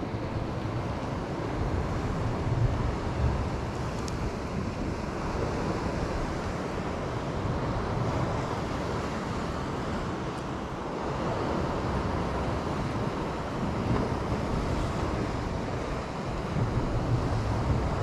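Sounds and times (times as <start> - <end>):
sea waves washing: 0.0 - 18.0
wind on microphone: 0.0 - 18.0.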